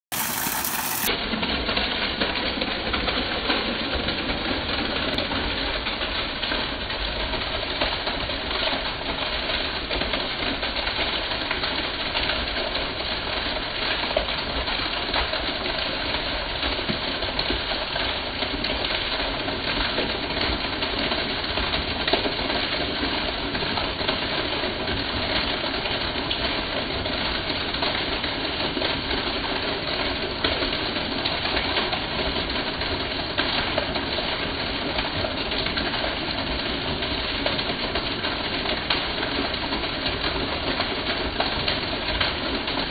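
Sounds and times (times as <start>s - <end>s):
rainwater pouring off roof: 0.1s - 42.9s.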